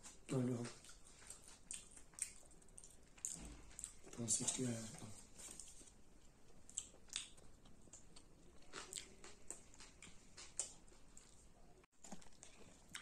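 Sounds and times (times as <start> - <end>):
chewing crunchy pastry: 0.0 - 13.0.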